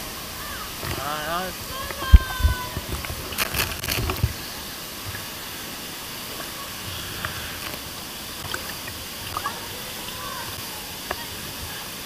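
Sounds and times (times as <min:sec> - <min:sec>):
water splashes: 0:00.0 - 0:12.0
waterfall rushing: 0:00.0 - 0:12.0.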